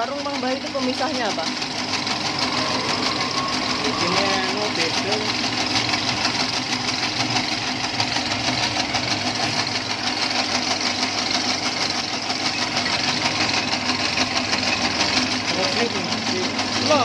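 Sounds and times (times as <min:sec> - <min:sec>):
noodle machine motor rattling: 0:00.0 - 0:17.0.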